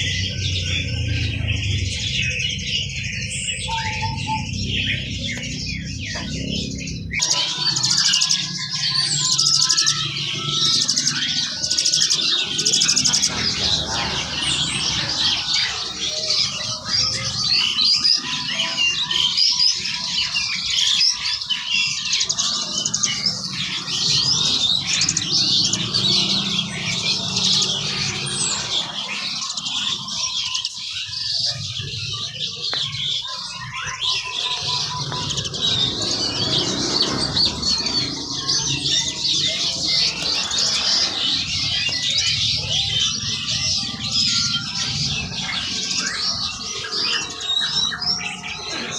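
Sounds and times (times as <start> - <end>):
caged birds chirping: 0.0 - 48.9.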